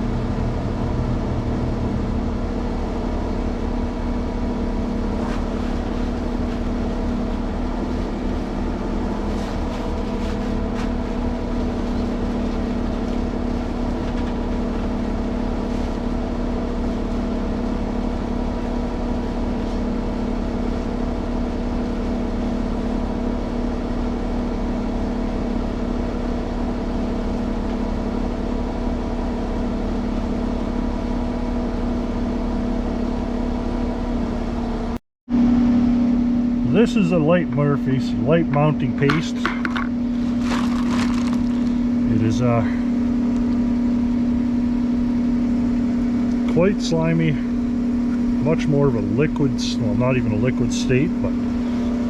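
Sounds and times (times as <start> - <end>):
motor running steadily: 0.0 - 52.0.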